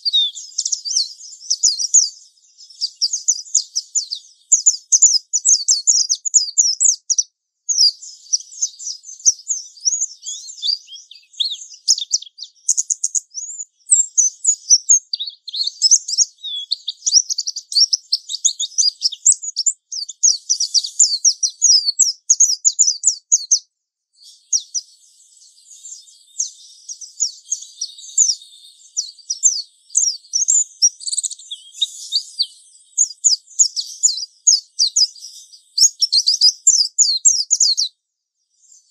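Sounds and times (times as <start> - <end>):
bird twittering warble: 0.0 - 23.6, 24.2 - 37.9.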